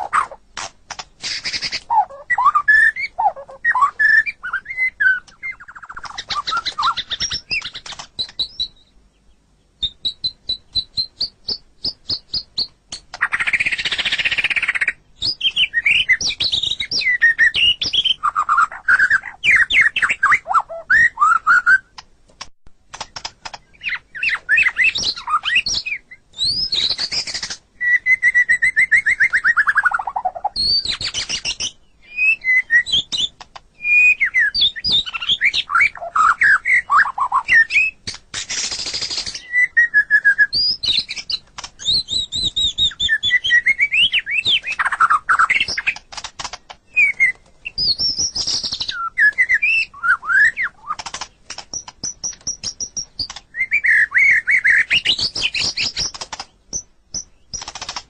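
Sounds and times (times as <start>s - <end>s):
bird singing whistled phrases: 1.3s - 9.0s, 9.8s - 21.9s, 23.7s - 38.0s, 38.8s - 46.0s, 46.9s - 51.0s, 51.8s - 56.1s.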